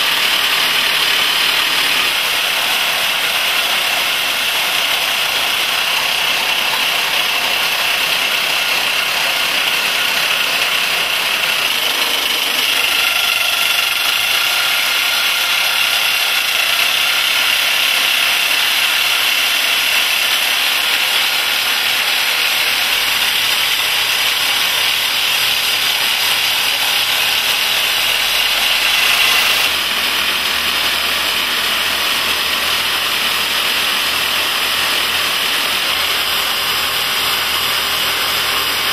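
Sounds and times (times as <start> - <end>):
rock drill boring into rock: 0.0 - 38.9.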